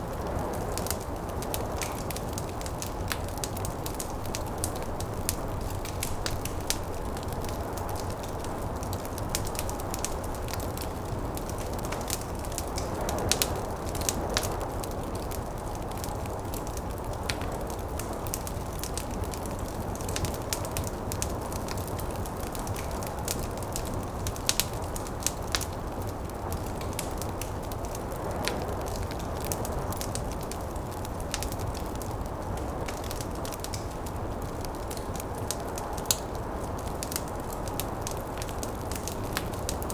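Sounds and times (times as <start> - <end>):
fireplace fire crackling and popping: 0.0 - 39.9.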